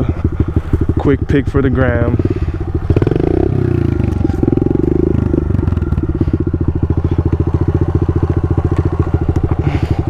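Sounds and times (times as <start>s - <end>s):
motorbike engine idling: 0.0s - 10.0s.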